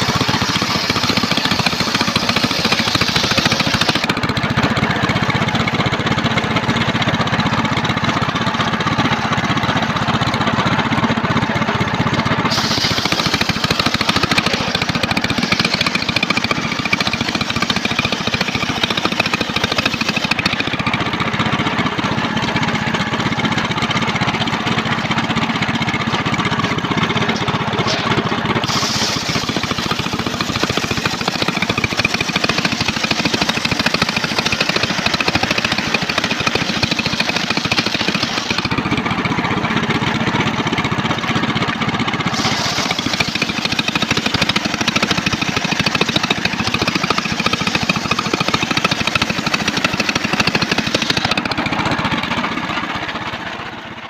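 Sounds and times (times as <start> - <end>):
circular sawmill sawing log: 0.0 - 54.0.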